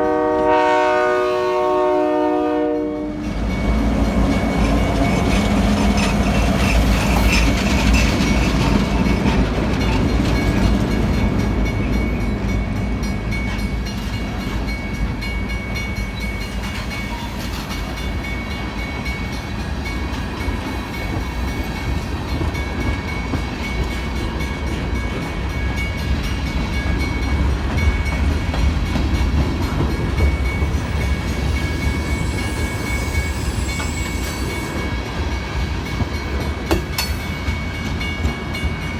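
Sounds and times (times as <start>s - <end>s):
freight train rolling past: 0.0s - 38.9s
high ring of wheels: 2.6s - 38.9s.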